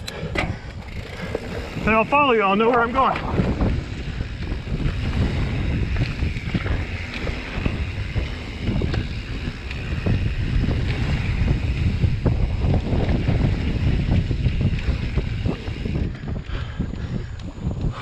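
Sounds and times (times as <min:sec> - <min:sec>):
bike knocks and rattles: 0:00.0 - 0:18.0
bike tyres rolling over dirt: 0:00.0 - 0:18.0
wind buffeting microphone: 0:00.0 - 0:18.0.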